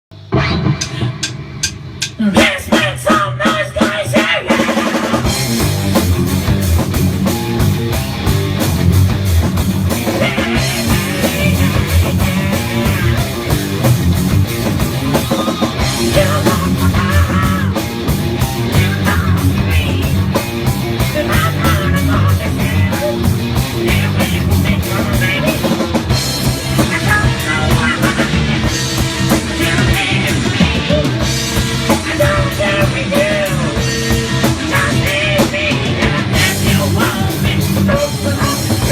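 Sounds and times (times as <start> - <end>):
rock song from a jukebox: 0.2 - 38.9.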